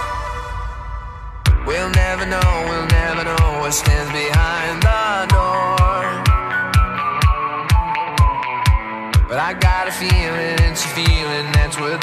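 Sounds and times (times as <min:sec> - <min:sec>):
held synth chords: 0:00.0 - 0:10.8
steady kick drum: 0:00.0 - 0:11.8
electronic dance music: 0:00.0 - 0:12.0.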